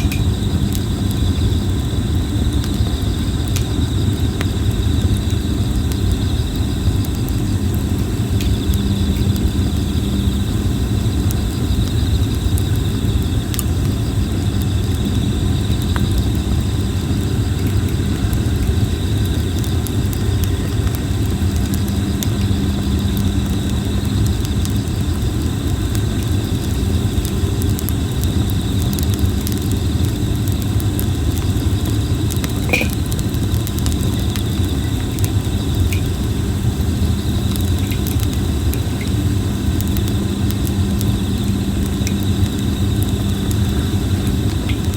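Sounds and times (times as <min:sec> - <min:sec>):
campfire crackling and popping: 0:00.0 - 0:44.9
faint insect trill: 0:00.0 - 0:44.9.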